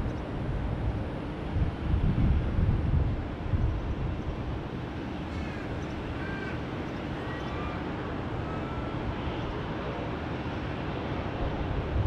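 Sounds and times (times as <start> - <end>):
distant jet aircraft rumble: 0.0 - 12.0.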